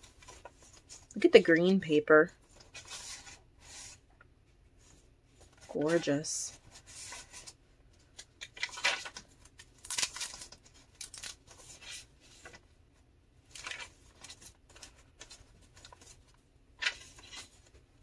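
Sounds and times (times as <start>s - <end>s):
paper pages turning: 0.0s - 1.2s, 2.5s - 4.0s, 4.8s - 12.6s, 13.5s - 17.8s.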